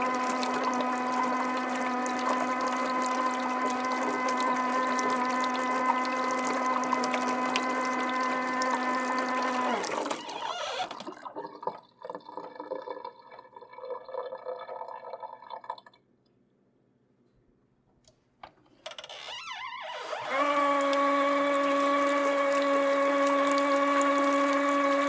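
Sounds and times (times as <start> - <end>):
kitchen tap running: 0.0 - 15.8, 20.0 - 25.0.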